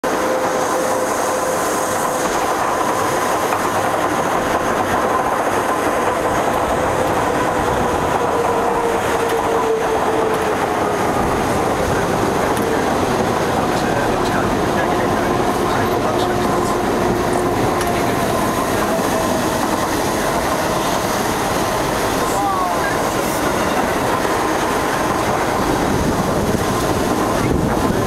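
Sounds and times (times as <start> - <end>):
railcar wheels and gearing rumble: 0.0 - 28.0.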